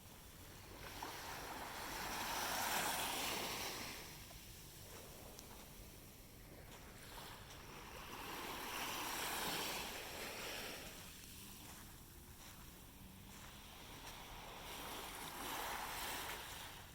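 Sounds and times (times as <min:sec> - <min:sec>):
small waves on sandy beach: 0:00.0 - 0:16.9.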